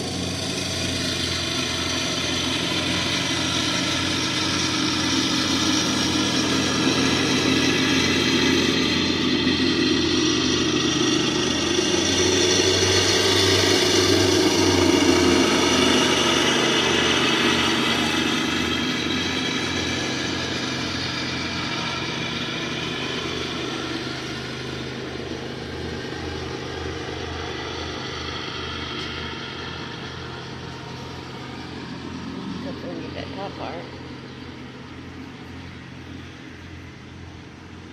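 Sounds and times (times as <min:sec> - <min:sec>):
lawn mower engine running: 0:00.0 - 0:37.9.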